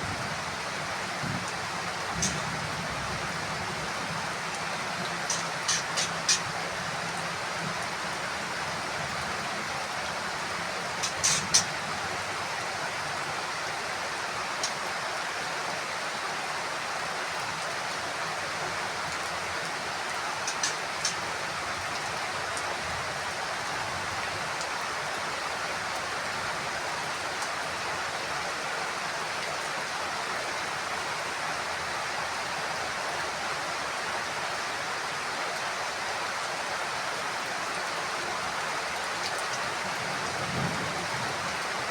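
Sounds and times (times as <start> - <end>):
heavy rain on a roof: 0.0 - 41.9.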